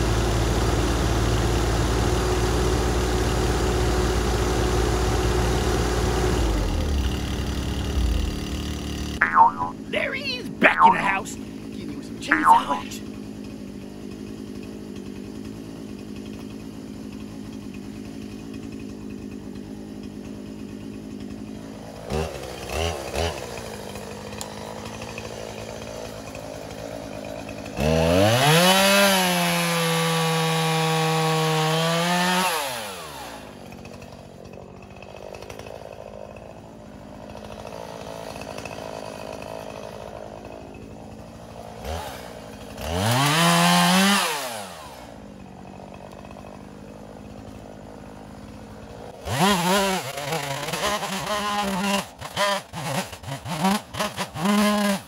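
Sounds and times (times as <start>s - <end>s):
chainsaw cutting log: 0.0s - 55.0s
chainsaw idling and revving: 0.0s - 55.0s.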